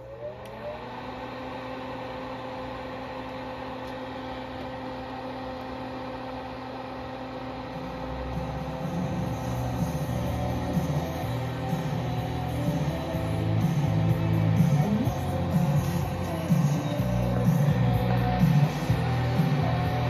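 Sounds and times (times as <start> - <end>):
cooling fan whirring: 0.0 - 20.0
low hum: 0.4 - 20.0.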